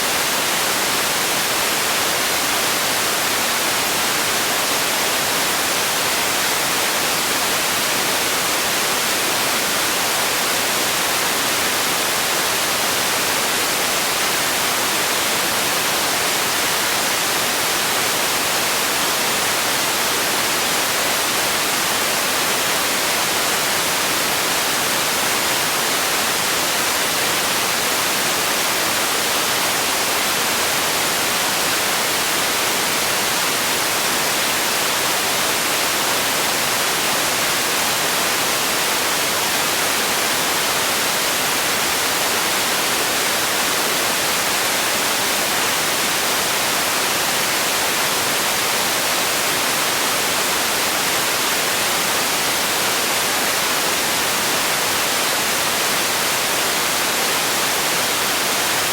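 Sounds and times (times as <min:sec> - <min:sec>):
constant synthetic hiss: 0:00.0 - 0:58.9.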